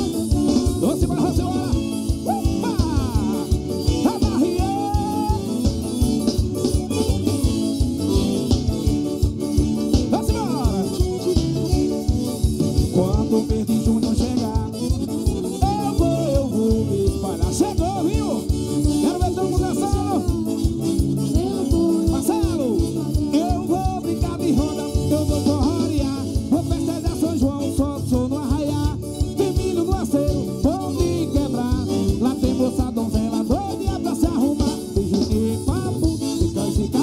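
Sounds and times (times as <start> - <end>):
accordion melody: 0.0 - 37.0
bass: 0.0 - 37.0
bass drum: 0.0 - 37.0
electric guitar: 0.0 - 37.0.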